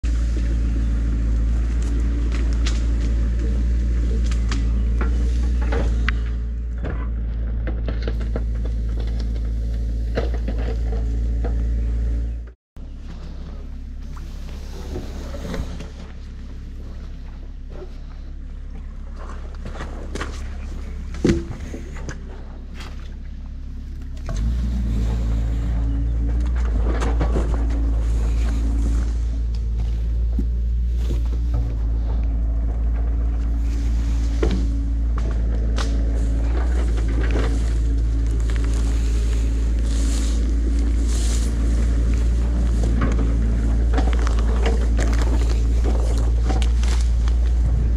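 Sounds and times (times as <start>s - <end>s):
sticks and branches cracking: 0.0s - 11.8s, 19.1s - 47.9s
excavator diesel engine running: 0.0s - 47.9s
low rumble: 0.0s - 47.9s.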